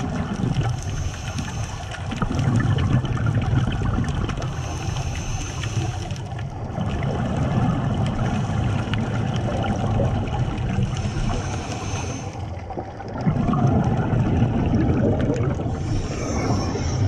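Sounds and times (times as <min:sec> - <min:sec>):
underwater low rumble: 0:00.0 - 0:17.0.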